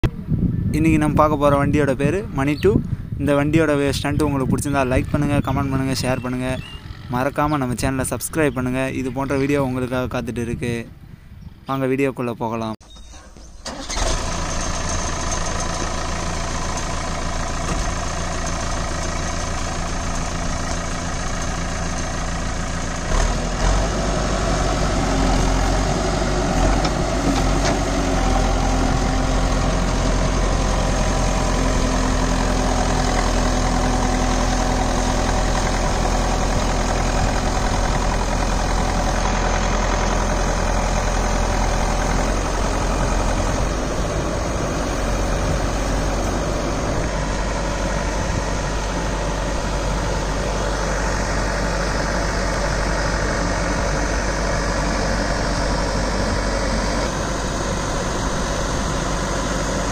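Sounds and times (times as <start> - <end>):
diesel engine idling and revving: 0.0 - 10.6, 12.9 - 59.9.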